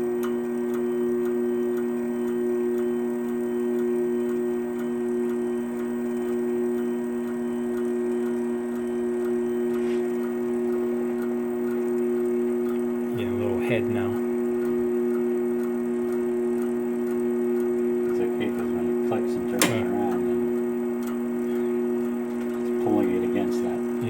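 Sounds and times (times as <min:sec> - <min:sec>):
light ticking: 0:00.0 - 0:24.0
motor hum: 0:00.0 - 0:24.0.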